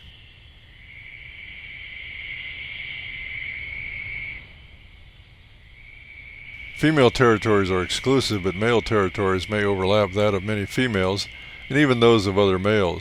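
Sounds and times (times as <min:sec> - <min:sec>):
insect chorus: 0:00.0 - 0:13.0
insect high-pitched buzz: 0:00.0 - 0:13.0.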